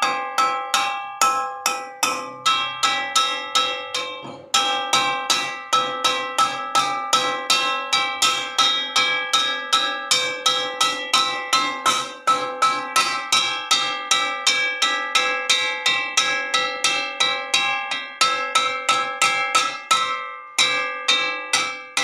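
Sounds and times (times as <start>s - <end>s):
metal wok struck ringing: 0.0s - 22.0s.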